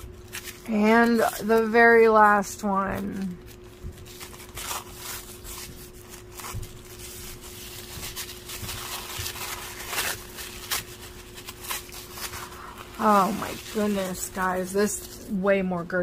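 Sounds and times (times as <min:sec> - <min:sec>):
tissue paper rustling and crinkling: 0:00.0 - 0:16.0.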